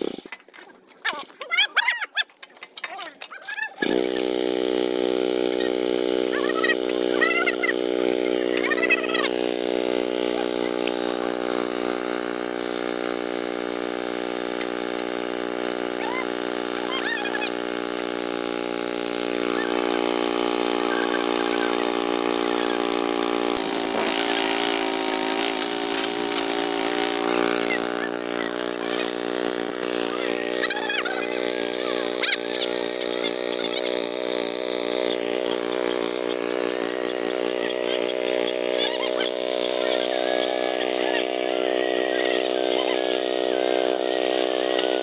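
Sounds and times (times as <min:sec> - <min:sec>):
drill bit boring through steel: 0:03.8 - 0:45.0
hissing metal-cutting noise: 0:03.8 - 0:45.0
rail drilling machine engine: 0:03.8 - 0:45.0.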